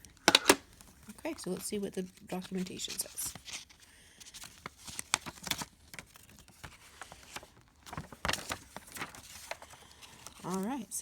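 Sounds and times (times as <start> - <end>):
paper rustling: 0.2 - 11.0.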